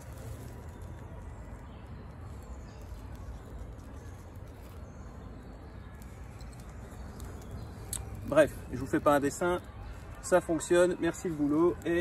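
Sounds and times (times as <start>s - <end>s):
tinder crackling as it burns: 0.0s - 12.0s.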